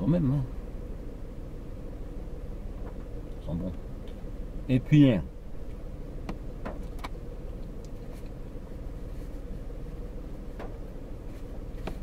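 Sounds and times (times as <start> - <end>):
low car cabin hum: 0.0 - 12.0.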